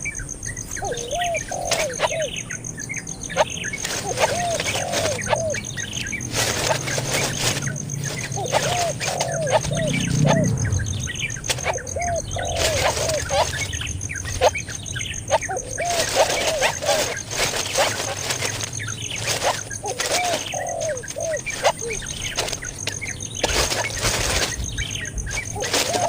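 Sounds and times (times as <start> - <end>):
baby bird chirping: 0.6 - 26.0
rustling: 0.9 - 2.3, 3.3 - 10.5, 11.3 - 26.0.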